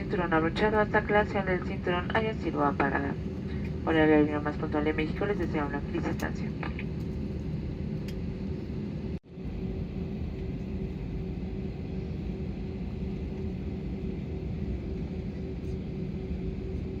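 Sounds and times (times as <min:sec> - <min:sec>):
aircraft cabin engine rumble: 0:00.0 - 0:17.0
steady hum: 0:00.0 - 0:17.0.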